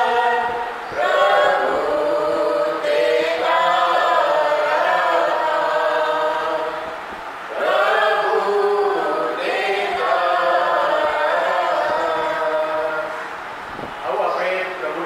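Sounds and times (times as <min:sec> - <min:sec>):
group singing a hymn: 0:00.0 - 0:13.9.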